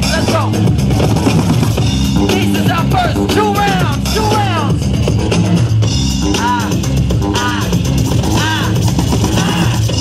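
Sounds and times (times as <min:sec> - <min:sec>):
loud music with steady beat: 0:00.0 - 0:10.0.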